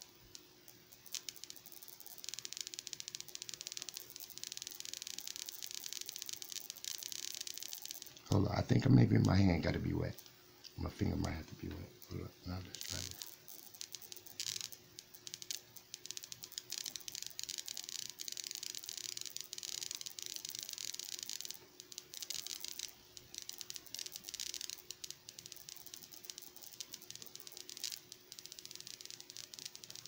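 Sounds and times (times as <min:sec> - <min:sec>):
faint steady hum: 0:00.0 - 0:30.0
high-voltage crackling: 0:00.0 - 0:30.0.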